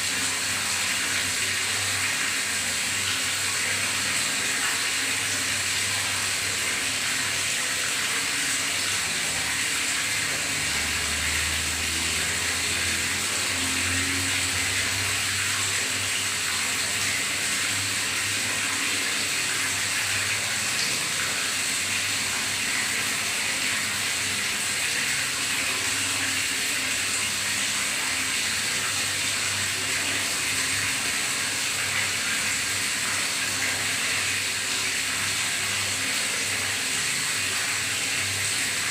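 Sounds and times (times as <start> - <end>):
water gurgling: 0.0 - 38.9
water rushing in bathtub: 0.0 - 38.9.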